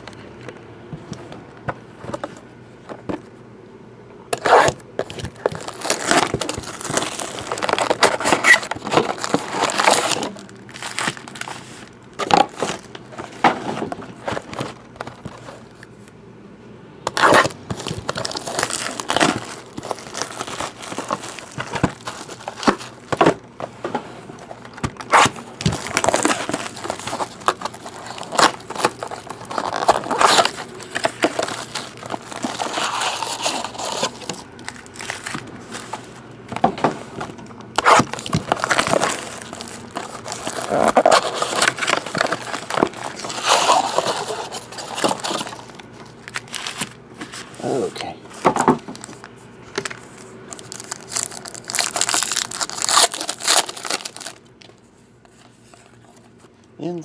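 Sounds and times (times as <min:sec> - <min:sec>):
card packs rustling: 0:04.3 - 0:16.1, 0:17.1 - 0:57.0
plastic wrap crinkling and tearing: 0:04.4 - 0:15.7, 0:17.1 - 0:23.4, 0:24.4 - 0:47.9, 0:48.8 - 0:54.8.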